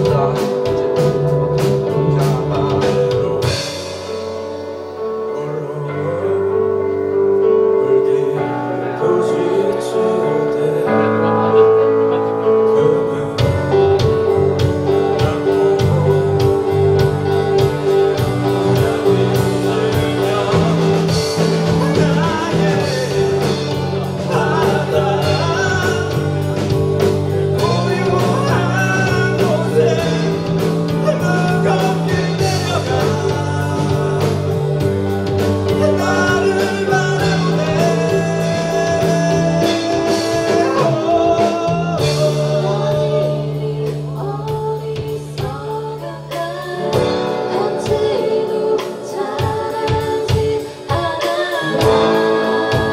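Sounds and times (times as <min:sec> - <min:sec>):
bass guitar: 0:00.0 - 0:52.9
drums: 0:00.0 - 0:52.9
electric guitar: 0:00.0 - 0:52.9
person singing: 0:05.0 - 0:52.9.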